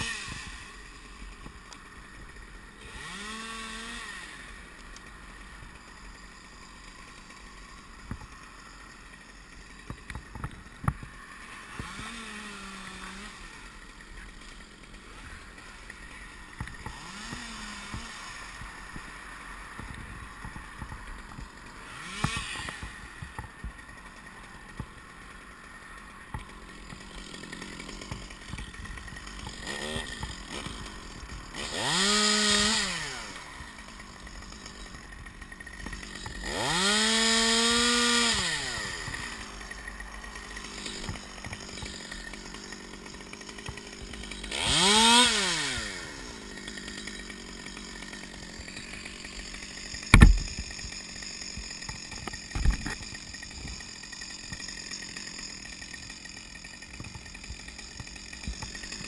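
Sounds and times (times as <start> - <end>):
chainsaw revving: 0.0 - 59.0.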